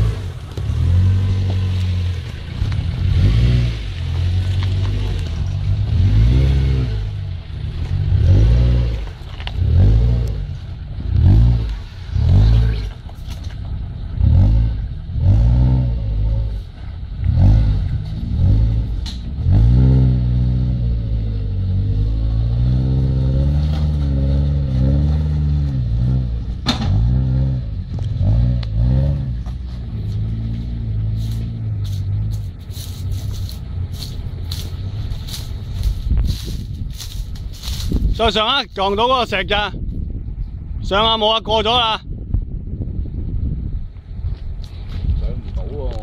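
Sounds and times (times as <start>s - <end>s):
car engine revving: 0.0s - 37.9s.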